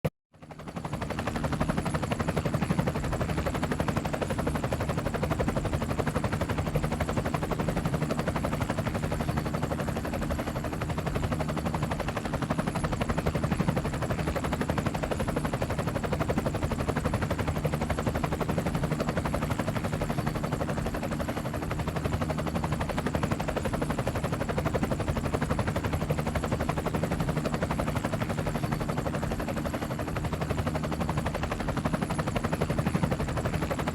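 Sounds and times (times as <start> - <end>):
helicopter engine drone: 0.4 - 33.9
helicopter rotor chopping: 0.4 - 33.9.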